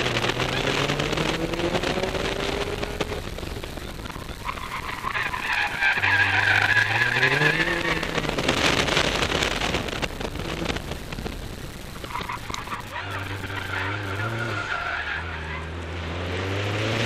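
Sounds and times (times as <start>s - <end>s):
car engine revving: 0.0s - 17.0s
road and wind noise: 0.0s - 17.0s
tires squealing: 0.0s - 17.0s.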